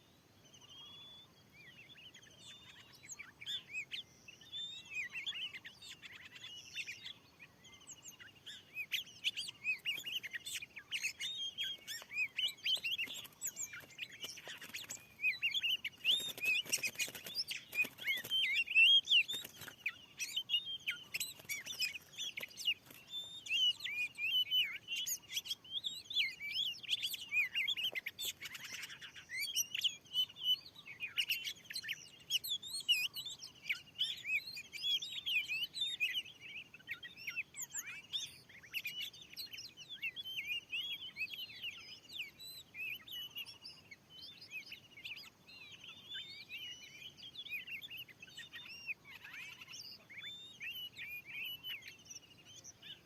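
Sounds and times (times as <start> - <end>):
bird singing chirps and whistles: 0.0 - 53.0.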